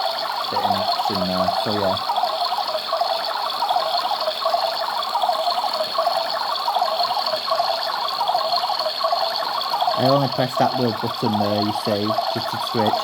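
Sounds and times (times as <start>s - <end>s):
toy washing machine motor whirring: 0.0s - 13.0s.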